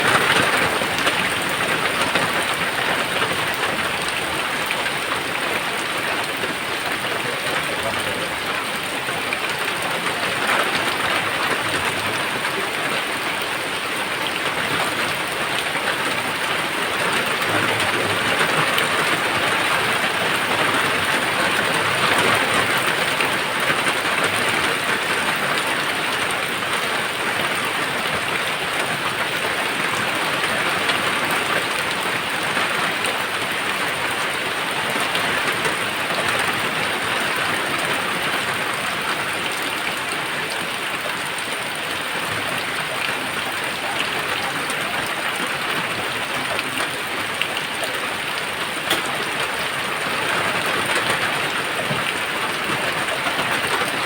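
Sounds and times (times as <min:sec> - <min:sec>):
steady rain pouring: 0:00.0 - 0:54.0.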